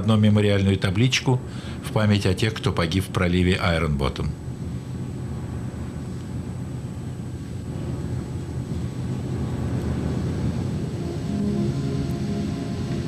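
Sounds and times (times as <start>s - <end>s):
low droning machinery hum: 0.0s - 13.0s.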